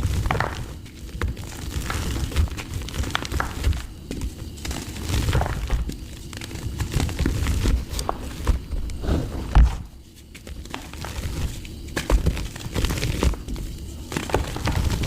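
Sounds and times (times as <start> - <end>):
dried mud crumbling: 0.0 - 15.0.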